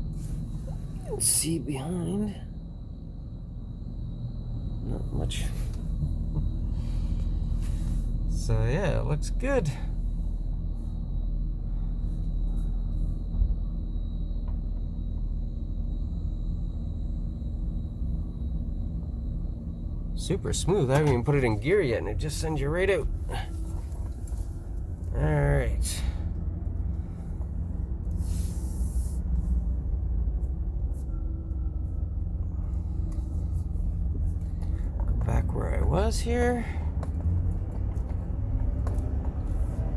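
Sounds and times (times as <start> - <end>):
faint high whine: 0.0 - 36.9
car wash low rumble: 0.0 - 39.9
van engine and road noise: 0.0 - 39.9.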